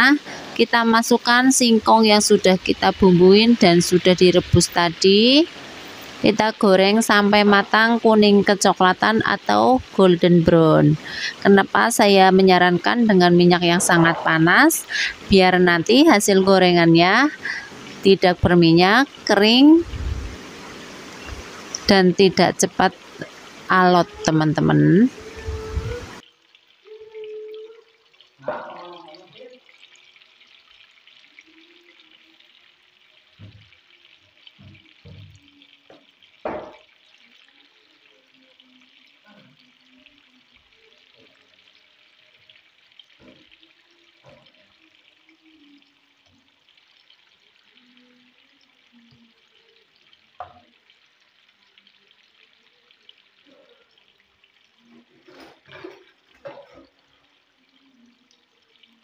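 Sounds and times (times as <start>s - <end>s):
food deep-frying in hot oil: 0.0s - 59.0s.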